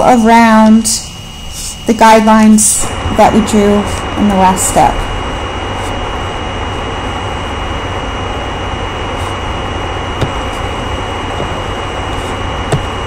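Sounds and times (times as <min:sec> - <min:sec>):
low hum: 0:00.0 - 0:13.0
thin high whine: 0:00.0 - 0:13.0.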